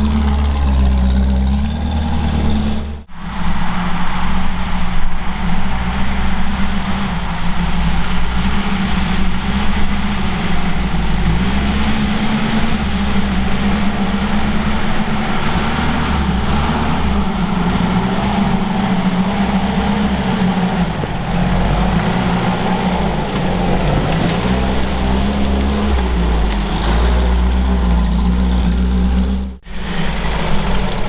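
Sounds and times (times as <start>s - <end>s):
off-roader engine running: 0.0s - 31.0s.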